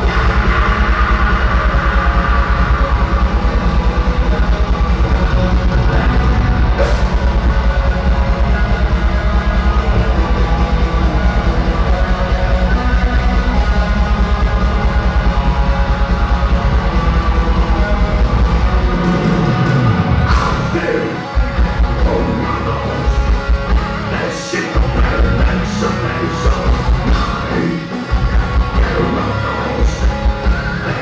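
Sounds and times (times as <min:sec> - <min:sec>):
distorted electric guitars: 0:00.0 - 0:31.0
fast drum beat: 0:00.0 - 0:31.0.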